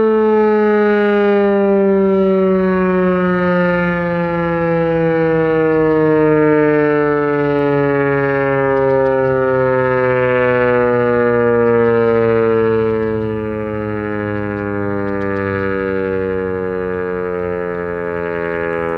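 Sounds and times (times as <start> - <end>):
warning siren with falling pitch: 0.0 - 18.9.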